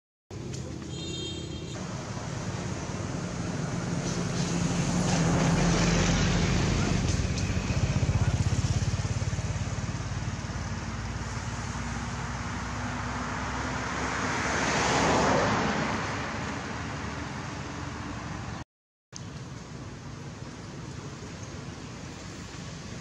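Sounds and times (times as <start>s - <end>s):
vehicles passing: 0.3s - 18.6s, 19.2s - 23.0s.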